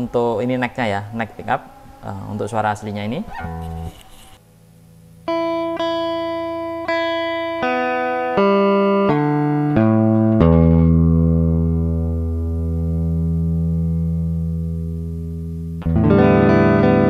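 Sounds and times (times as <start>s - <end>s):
clean electric guitar notes: 0.0s - 4.0s, 5.2s - 17.0s.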